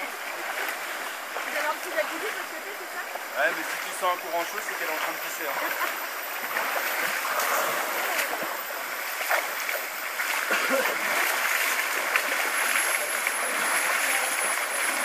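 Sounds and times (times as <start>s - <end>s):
river rushing: 0.0s - 15.0s
water splashed by hand: 0.0s - 15.0s.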